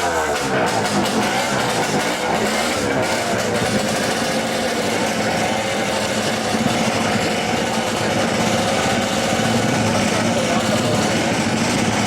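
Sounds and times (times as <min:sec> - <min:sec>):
small motorbike engine buzzing: 0:00.0 - 0:12.0.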